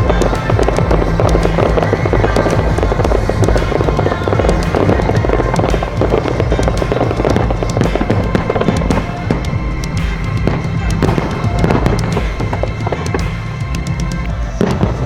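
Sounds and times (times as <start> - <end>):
fireworks crackling and popping: 0.0 - 15.0
low rumble: 0.0 - 15.0
music playing: 0.0 - 15.0.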